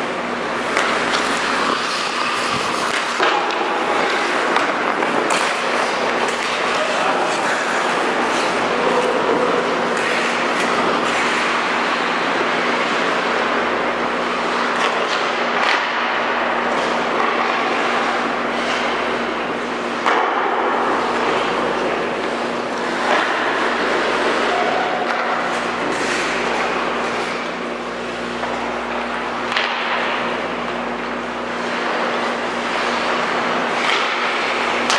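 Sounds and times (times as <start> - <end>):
constant low hum: 0.0 - 34.9
hockey sticks and puck clacking: 0.0 - 34.9.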